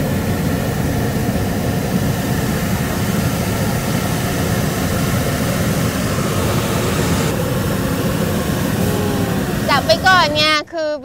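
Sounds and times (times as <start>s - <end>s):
propane burner roaring: 0.0s - 11.0s.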